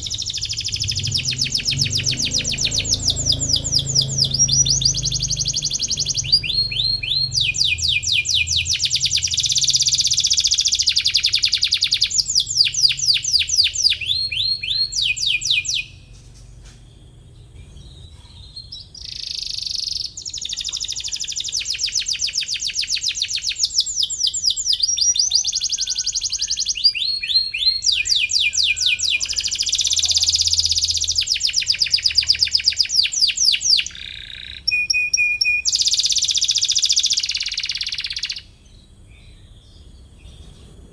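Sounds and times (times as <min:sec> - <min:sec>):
canary trilling and chirping: 0:00.0 - 0:40.8.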